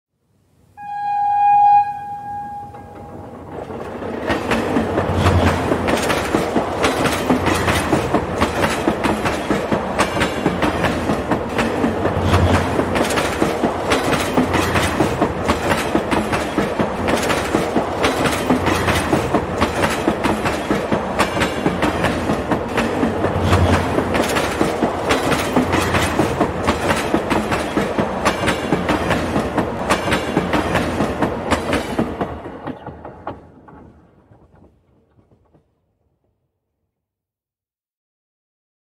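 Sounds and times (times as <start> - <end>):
train wheels clattering: 2.7 - 35.8.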